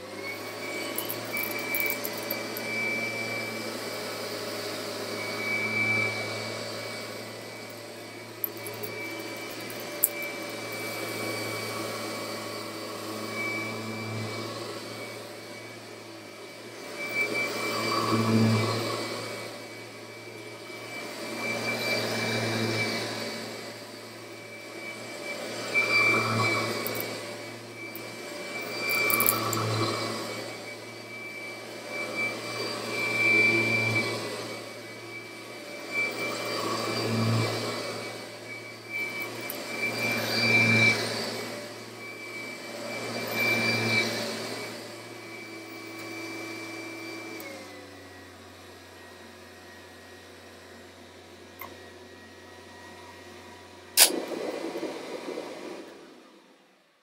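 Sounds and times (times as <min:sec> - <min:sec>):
vacuum cleaner on carpet: 0:00.0 - 0:57.0.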